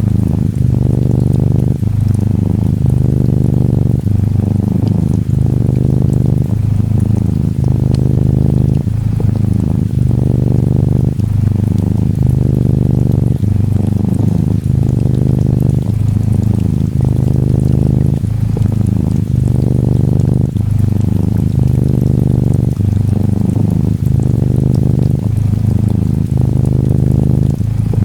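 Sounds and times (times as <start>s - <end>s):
faint rain patter: 0.0s - 28.0s
kitten purring: 0.0s - 28.0s.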